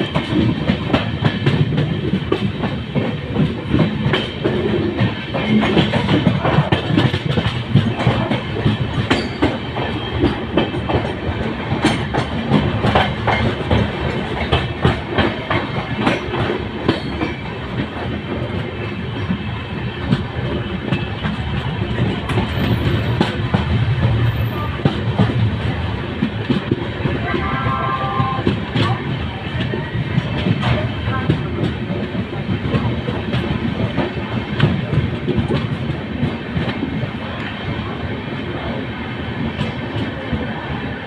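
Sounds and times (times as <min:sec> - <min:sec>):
wheels clacking over rail joints: 0:00.0 - 0:37.6
train carriages rumbling: 0:00.0 - 0:41.0.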